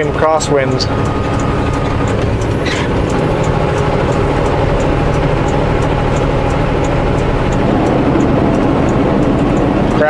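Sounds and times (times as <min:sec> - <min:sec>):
truck engine and road rumble: 0:00.0 - 0:10.0
faint high ticks: 0:01.0 - 0:10.0.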